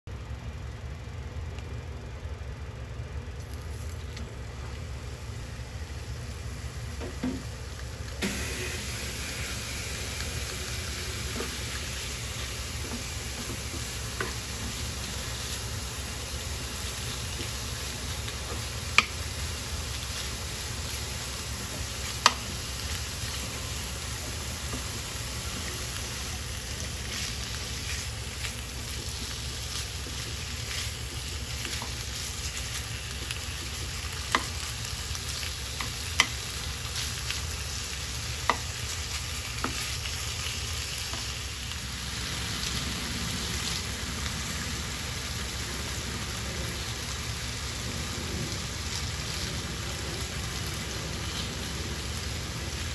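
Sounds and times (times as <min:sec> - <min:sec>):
meat sizzling in a frying pan: 0:05.1 - 0:52.9.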